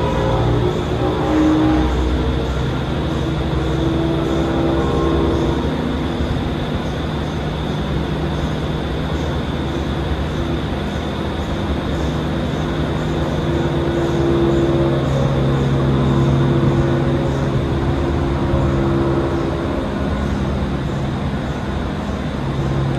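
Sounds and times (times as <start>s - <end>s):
aerial tram cabin rumble and hiss: 0.0s - 22.9s
low mechanical hum: 0.0s - 22.9s.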